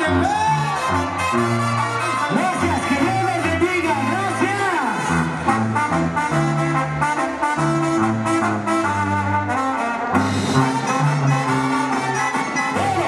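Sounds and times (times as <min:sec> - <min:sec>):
brass band playing: 0:00.0 - 0:13.0.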